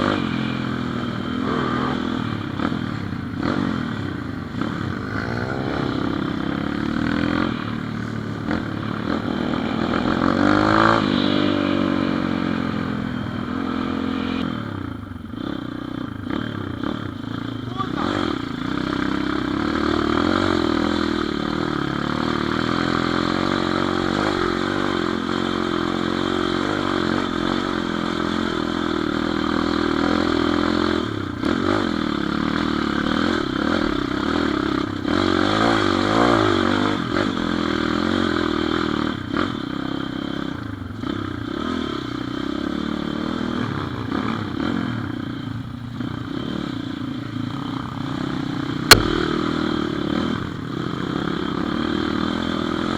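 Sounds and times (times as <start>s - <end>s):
small motorbike engine revving: 0.0s - 52.9s.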